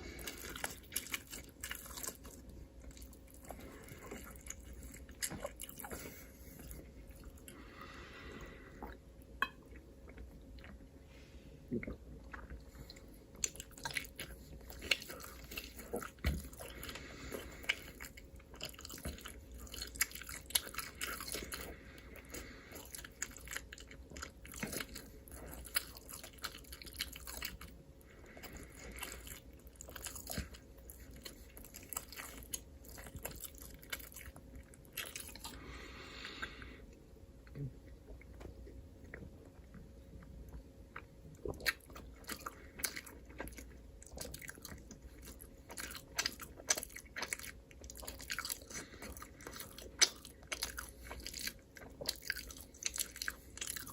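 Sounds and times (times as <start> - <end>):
crunchy food chewing: 0.0 - 10.8, 11.7 - 53.9.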